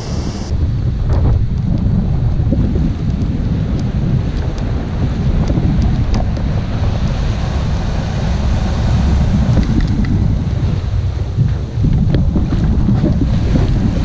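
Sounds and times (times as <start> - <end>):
surf breaking around hull: 0.0 - 14.0
wind buffeting microphone: 0.0 - 14.0.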